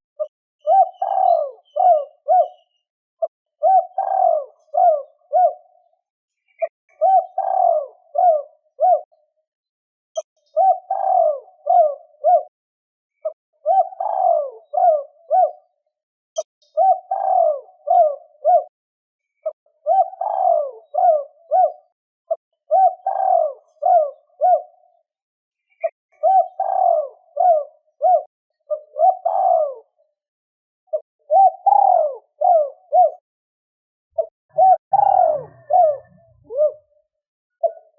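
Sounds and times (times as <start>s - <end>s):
dove cooing: 0.2s - 5.9s, 6.6s - 9.3s, 10.2s - 12.6s, 13.2s - 15.8s, 16.4s - 18.8s, 19.4s - 25.0s, 25.8s - 30.0s, 30.9s - 33.2s, 34.2s - 37.9s.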